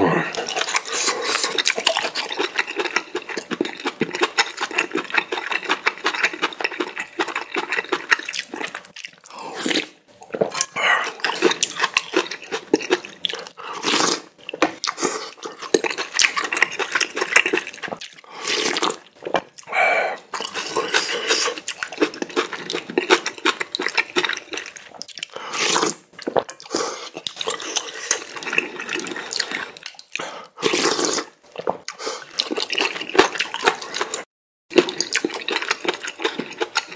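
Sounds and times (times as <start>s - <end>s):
person chewing and slurping noodles: 0.1s - 36.9s.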